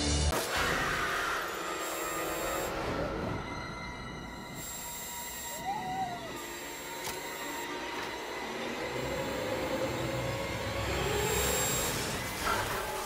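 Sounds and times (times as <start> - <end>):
low droning soundtrack: 0.0 - 13.0.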